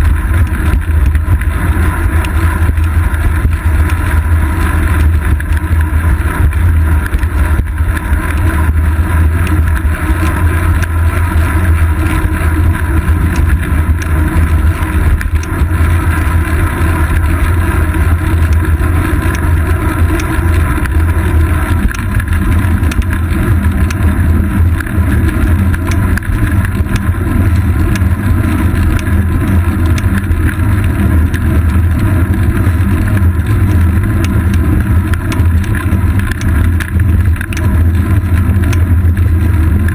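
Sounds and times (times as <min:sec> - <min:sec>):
bicycle tyre road rumble: 0:00.0 - 0:39.9.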